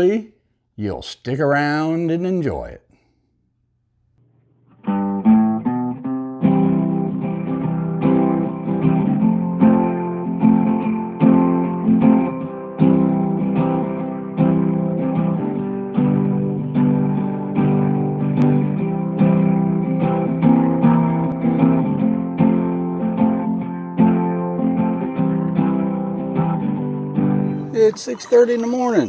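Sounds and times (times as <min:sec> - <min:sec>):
acoustic guitar strumming: 0:04.7 - 0:29.0.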